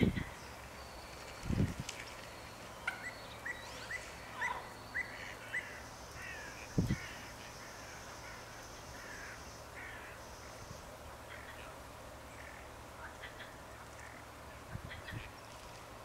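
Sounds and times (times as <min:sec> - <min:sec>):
avocets calling: 0:00.0 - 0:15.8.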